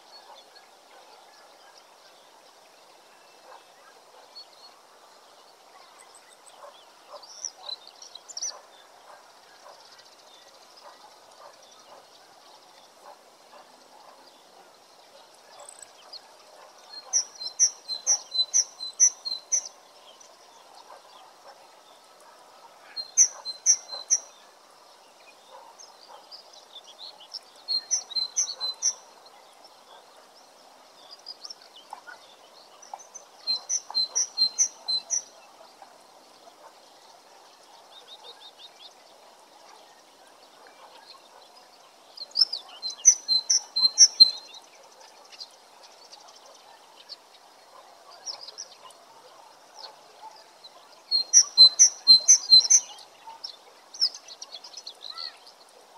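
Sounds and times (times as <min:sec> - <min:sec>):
faint background noise: 0:00.0 - 0:55.9
songbird singing: 0:00.0 - 0:55.9.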